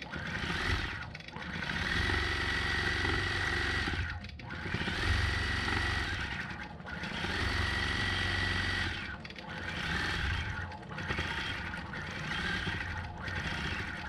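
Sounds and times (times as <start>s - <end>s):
quilting machine needle chatter: 0.0s - 14.0s.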